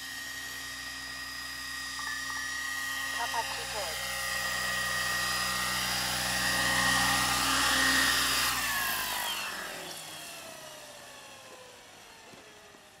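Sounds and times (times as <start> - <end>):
rc helicopter motor whining: 0.0 - 13.0.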